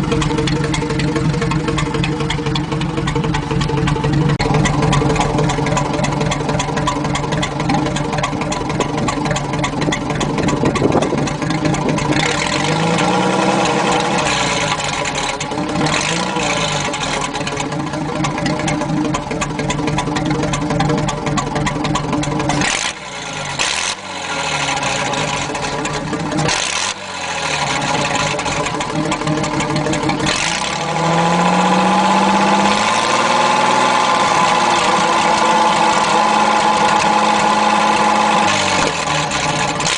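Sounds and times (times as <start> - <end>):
loud unmuffled truck engine revving: 0.0 - 39.9.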